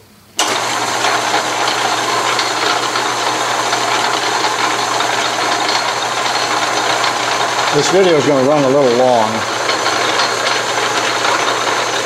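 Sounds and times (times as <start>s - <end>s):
metal lathe running: 0.4s - 12.0s.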